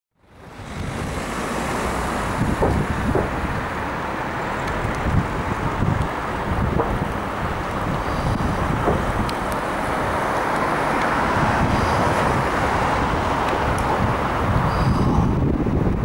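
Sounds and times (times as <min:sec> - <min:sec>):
jet engines roaring: 0:00.3 - 0:16.0.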